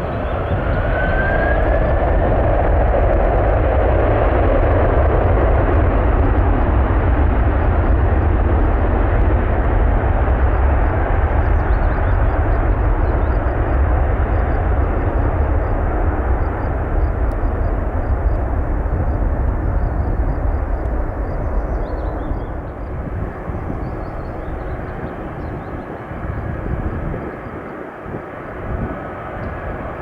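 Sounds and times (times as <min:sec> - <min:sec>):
jet engine noise: 0:00.0 - 0:30.0.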